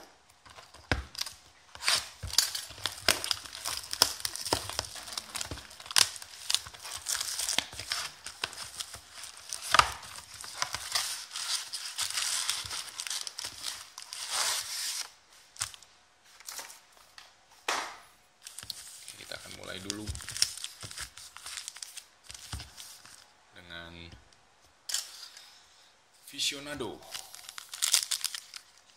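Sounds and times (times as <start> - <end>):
plastic wrap crinkling and tearing: 0.3 - 16.8, 18.4 - 23.3, 26.9 - 28.9.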